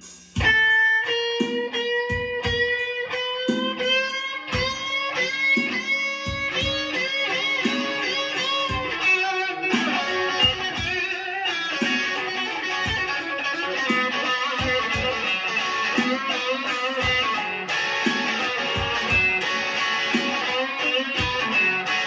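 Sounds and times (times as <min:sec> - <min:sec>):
electric guitar blues lead: 0:00.4 - 0:22.0.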